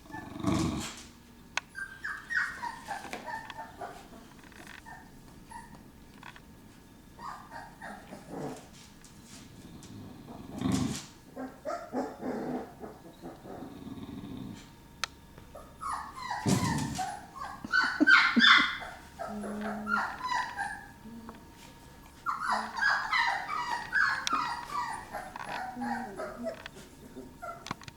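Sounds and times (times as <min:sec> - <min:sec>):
dogs yipping and growling: 0:00.0 - 0:06.3, 0:07.1 - 0:08.8, 0:09.8 - 0:14.9, 0:15.5 - 0:27.9.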